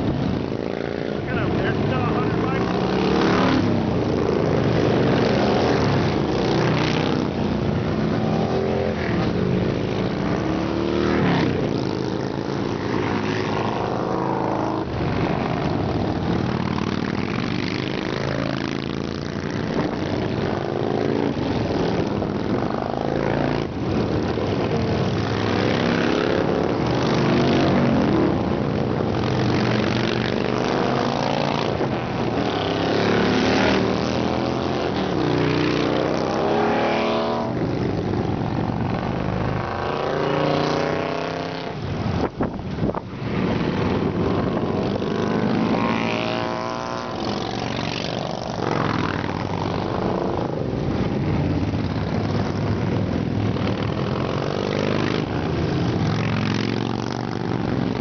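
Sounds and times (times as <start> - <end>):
motorcycles riding past: 0.0 - 58.0.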